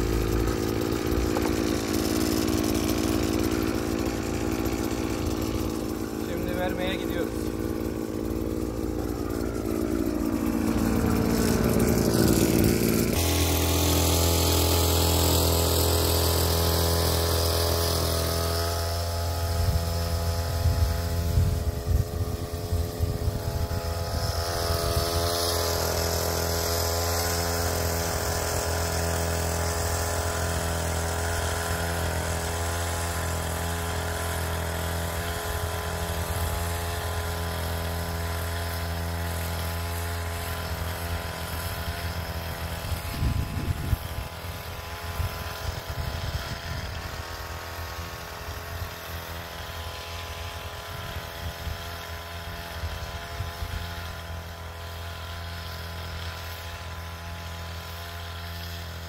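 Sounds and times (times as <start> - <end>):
two-stroke engine running: 0.0 - 59.0.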